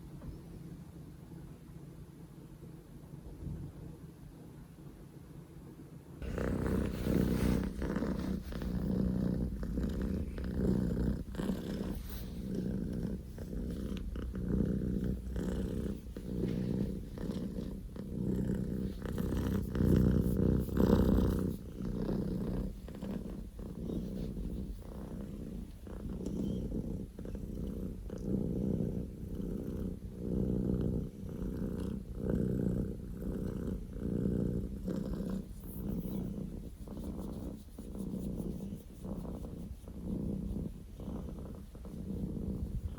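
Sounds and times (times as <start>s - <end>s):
kitten purring loudly: 6.2s - 42.9s.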